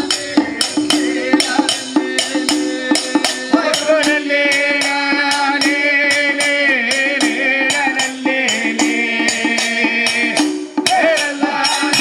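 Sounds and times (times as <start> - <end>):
rattle strokes beat: 0.0 - 12.0.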